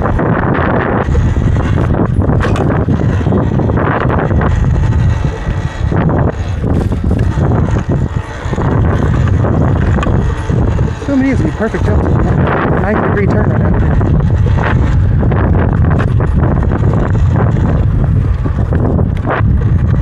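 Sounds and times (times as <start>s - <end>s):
electric dirt bike rumble: 0.0s - 20.0s
wind buffeting microphone: 0.0s - 20.0s.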